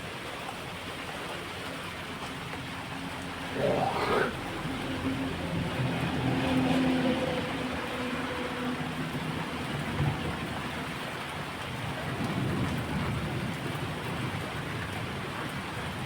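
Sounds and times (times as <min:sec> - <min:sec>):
heavy rain falling: 0:00.1 - 0:16.0.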